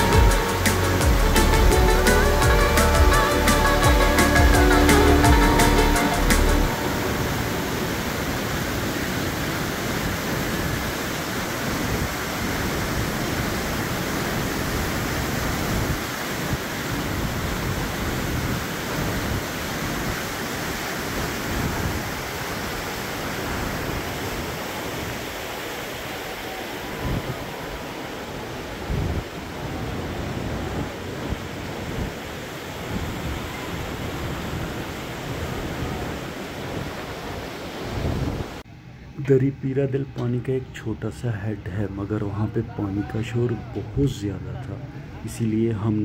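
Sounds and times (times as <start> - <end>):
canal water rushing: 0.0 - 38.7.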